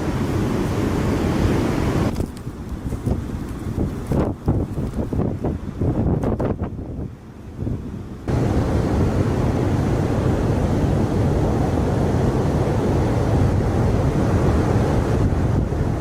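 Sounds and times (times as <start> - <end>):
surf crashing: 0.0 - 6.7, 7.7 - 16.0
strong wind buffeting microphone: 0.0 - 16.0.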